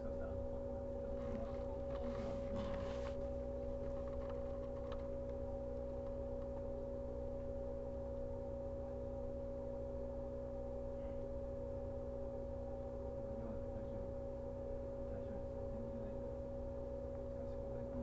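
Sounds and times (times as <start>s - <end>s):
train equipment electrical hum: 0.0s - 18.0s.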